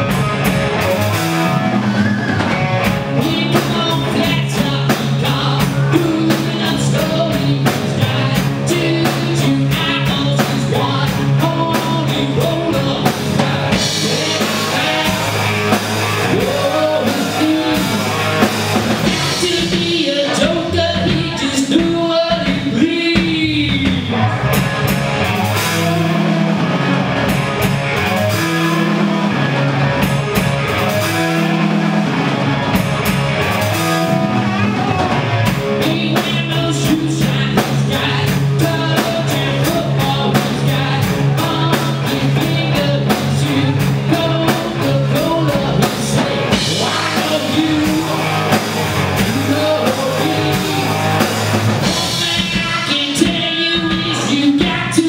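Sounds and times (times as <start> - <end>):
drum kit steady beat: 0.0 - 55.0
electric bass: 0.0 - 55.0
electric guitar: 0.0 - 55.0
man singing lead: 1.5 - 24.6, 25.2 - 26.6, 34.0 - 55.0.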